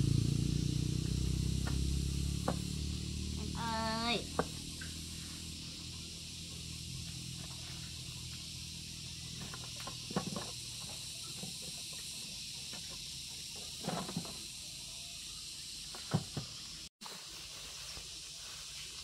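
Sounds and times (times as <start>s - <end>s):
high-pitched background hiss: 0.0s - 19.0s.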